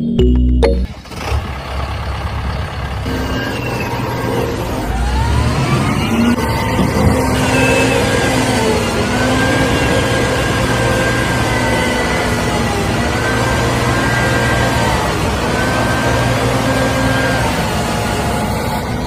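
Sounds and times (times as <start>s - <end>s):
heavy vehicle engine running: 0.3s - 19.0s.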